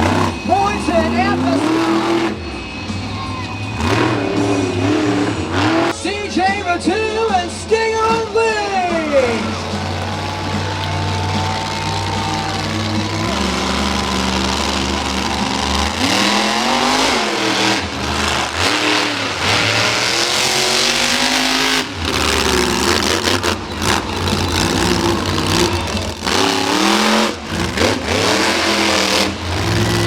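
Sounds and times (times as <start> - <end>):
truck engine revving hard: 0.0 - 6.2, 8.0 - 30.0.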